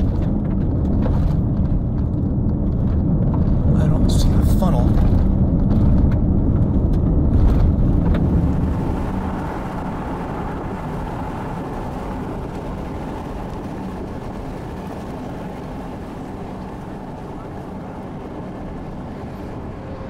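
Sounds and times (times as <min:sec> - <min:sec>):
car interior driving rumble: 0:00.0 - 0:20.0
tyre and wind noise: 0:00.0 - 0:20.0.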